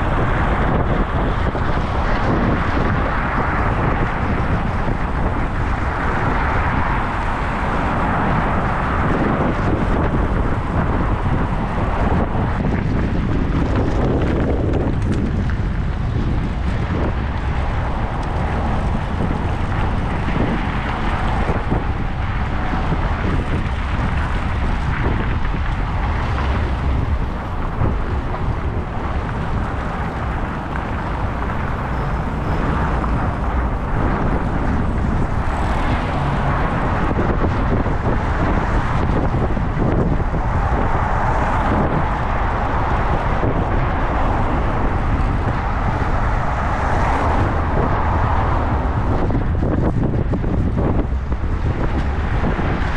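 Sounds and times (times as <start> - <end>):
road and traffic noise: 0.0 - 52.9
wind buffeting microphone: 0.0 - 52.9.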